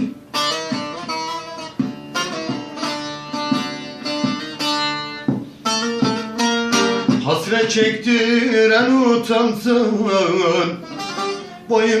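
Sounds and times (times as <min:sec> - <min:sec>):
plucked string instrument: 0:00.0 - 0:12.0
person singing folk song: 0:02.1 - 0:12.0.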